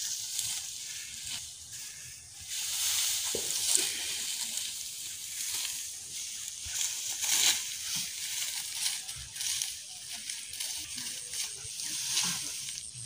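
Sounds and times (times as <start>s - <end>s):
dry straw rustling: 0.0s - 13.0s.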